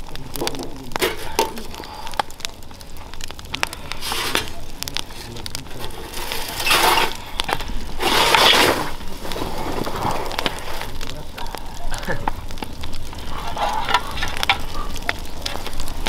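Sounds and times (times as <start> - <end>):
sharp pops from fire: 0.0 - 16.0
wood fire crackling: 0.0 - 16.0.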